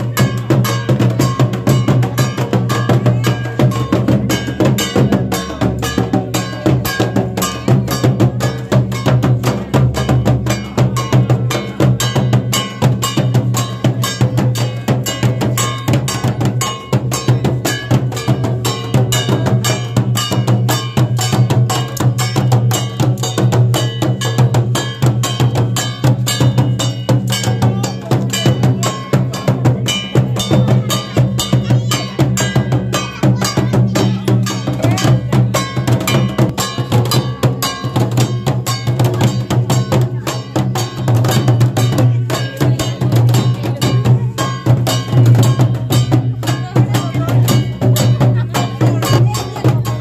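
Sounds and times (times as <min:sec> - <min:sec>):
barrel drum beaten with sticks: 0:00.0 - 0:50.0
kettle drum: 0:00.0 - 0:50.0.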